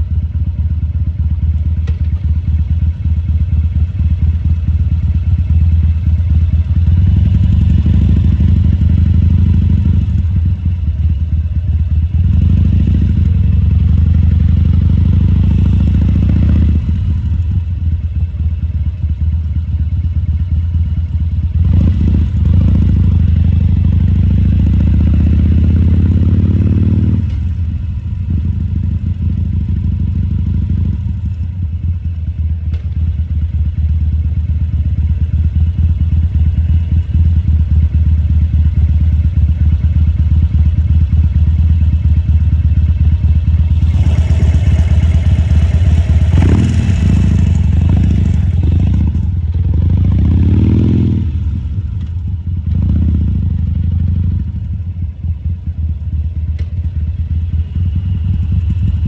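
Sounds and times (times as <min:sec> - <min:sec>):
motorcycle engine revving: 0:00.0 - 0:17.9, 0:19.5 - 0:31.2, 0:35.7 - 0:54.7.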